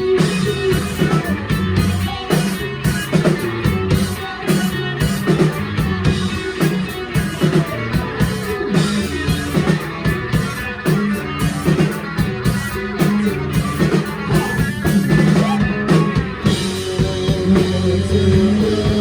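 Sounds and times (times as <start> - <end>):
bass guitar line: 0.0 - 19.0
drum kit beat: 0.0 - 19.0
electric guitar: 0.0 - 19.0.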